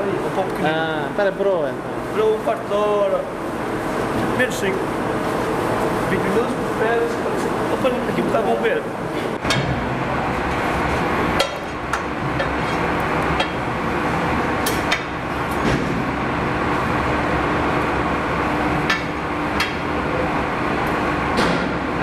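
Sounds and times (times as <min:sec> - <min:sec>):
dough kneading machine hum: 0:00.0 - 0:22.0.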